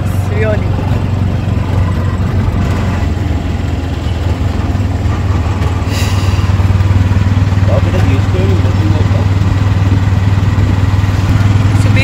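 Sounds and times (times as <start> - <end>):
auto-rickshaw engine droning: 0.0 - 12.0.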